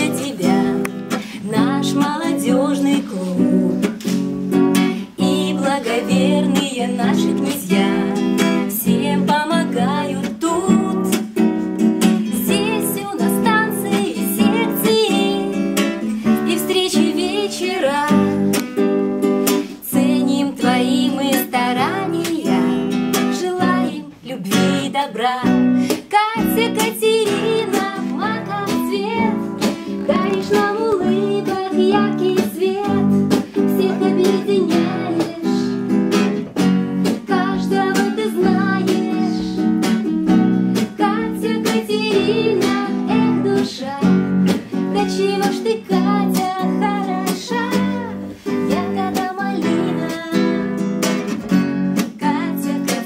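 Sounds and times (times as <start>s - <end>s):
woman singing: 0.0s - 51.4s, 52.0s - 53.0s
strummed acoustic guitar: 0.0s - 53.0s.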